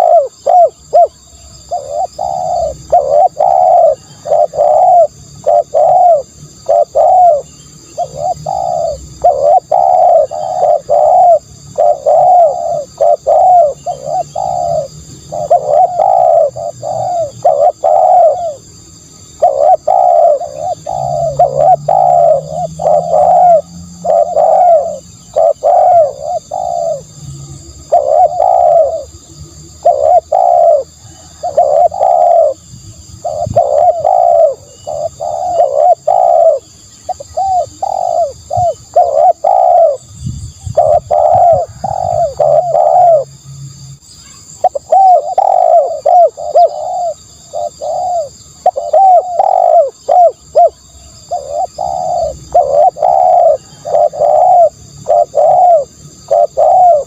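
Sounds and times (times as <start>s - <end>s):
dove cooing: 0.0s - 43.3s, 44.5s - 57.0s.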